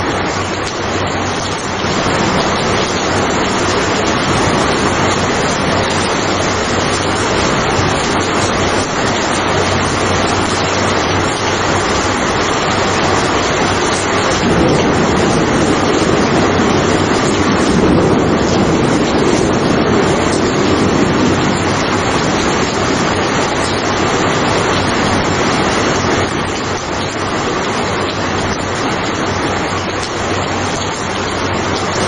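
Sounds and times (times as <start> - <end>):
heavy rain: 0.0 - 32.0
thunder rumble: 0.0 - 32.0.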